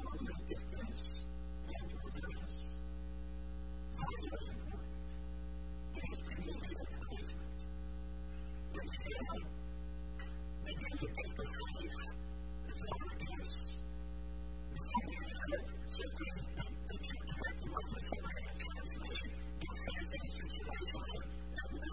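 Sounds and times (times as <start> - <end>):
electrical mains hum: 0.0 - 21.9.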